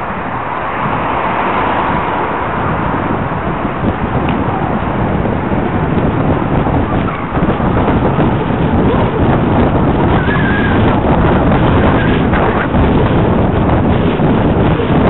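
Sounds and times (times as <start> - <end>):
heavy wind noise on microphone: 0.0 - 15.0.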